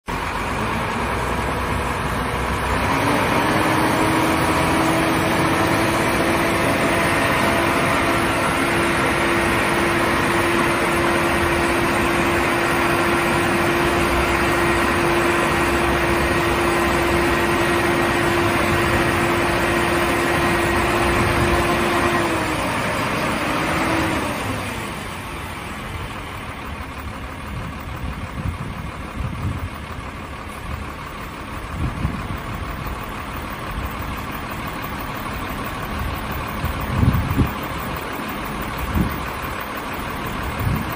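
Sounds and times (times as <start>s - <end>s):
diesel truck engine revving: 0.1s - 40.9s.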